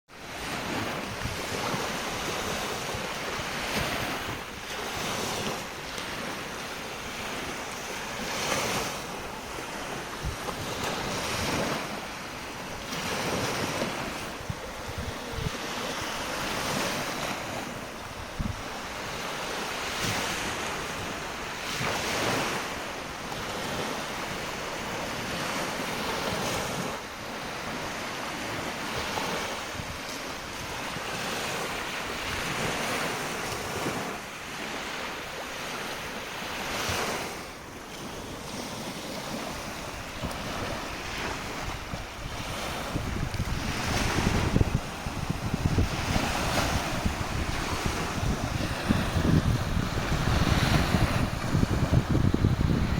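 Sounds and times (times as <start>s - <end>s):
small waves breaking on beach: 0.1s - 52.9s
wind buffeting microphone: 0.2s - 35.0s, 35.6s - 52.9s.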